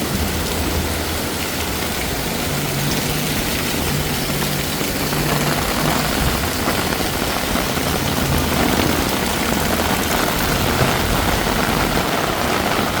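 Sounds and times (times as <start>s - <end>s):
heavy rain pouring: 0.0s - 13.0s
traffic engines rumbling: 0.0s - 13.0s.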